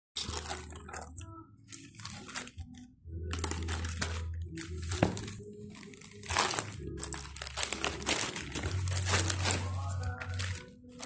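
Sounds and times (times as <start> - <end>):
plastic mailer bag crinkling: 0.2 - 11.0.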